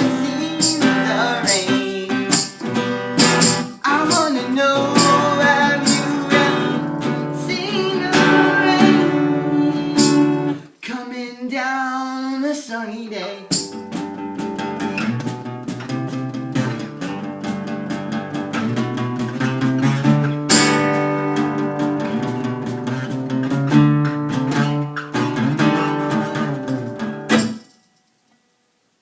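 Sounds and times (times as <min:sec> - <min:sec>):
acoustic guitar strumming: 0:00.0 - 0:11.0, 0:13.2 - 0:28.7.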